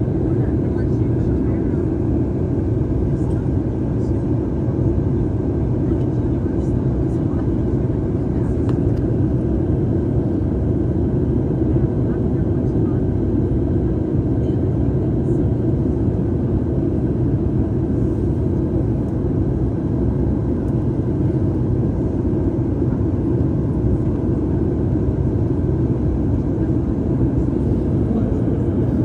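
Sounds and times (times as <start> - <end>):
airliner engines rumbling: 0.0 - 29.0.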